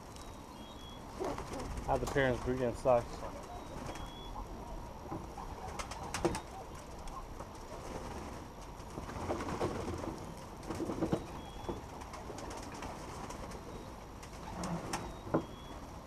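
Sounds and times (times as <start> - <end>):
pigeons cooing: 0.5 - 16.0.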